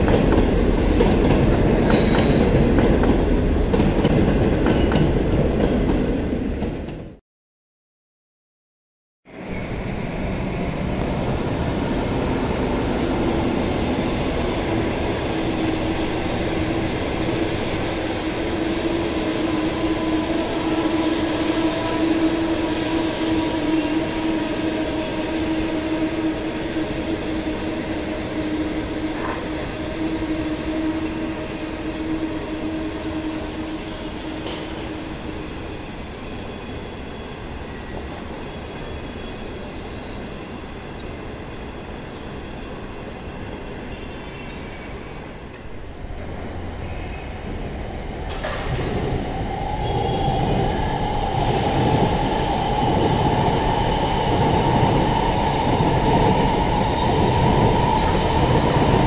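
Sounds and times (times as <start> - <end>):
train wheels running on rails: 0.0 - 7.2, 10.0 - 44.1, 44.9 - 59.0.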